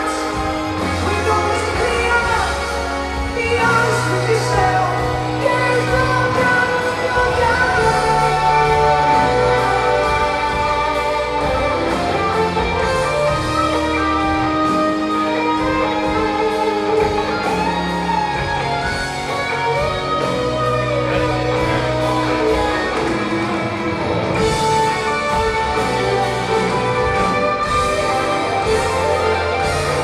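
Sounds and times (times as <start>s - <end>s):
bass: 0.0s - 30.0s
drums with steady beat: 0.0s - 30.0s
electric guitar: 0.0s - 30.0s
keyboards: 0.0s - 30.0s.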